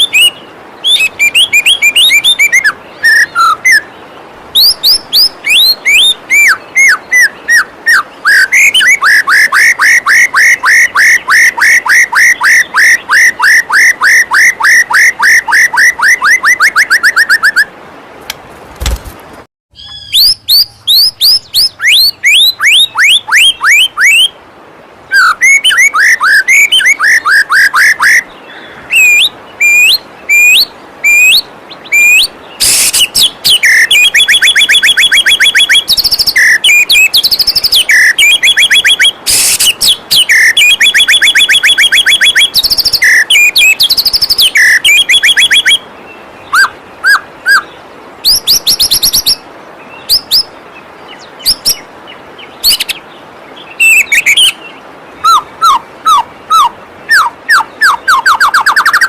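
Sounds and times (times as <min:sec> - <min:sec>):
bird song with rapid chirping: 0:00.0 - 0:17.6, 0:19.7 - 0:24.4, 0:25.1 - 0:59.0
rush of falling water: 0:00.0 - 0:59.0.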